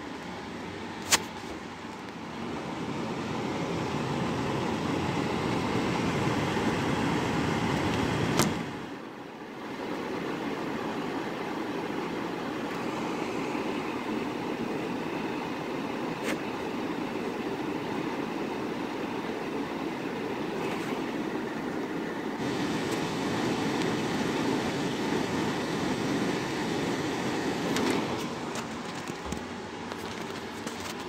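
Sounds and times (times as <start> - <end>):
exhaust fan running: 0.0 - 31.0.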